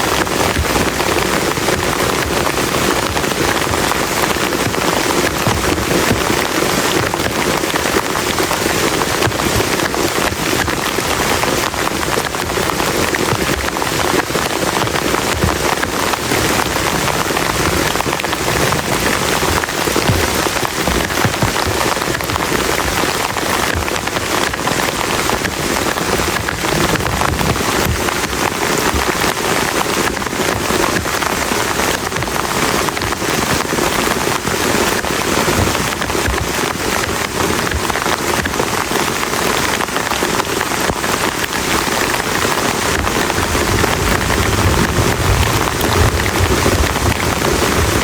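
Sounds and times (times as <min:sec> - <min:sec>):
heavy rain on a plastic tarp: 0:00.0 - 0:48.0.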